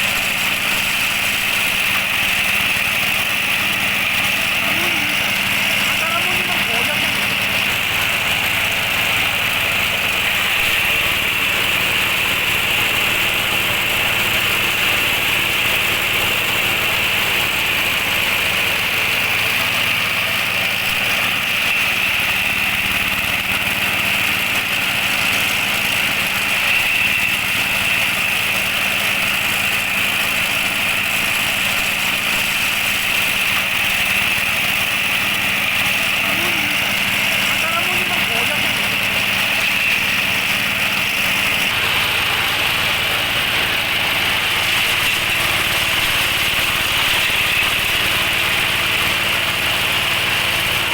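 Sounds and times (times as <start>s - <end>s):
loud diesel compost shredder running: 0.0s - 50.9s.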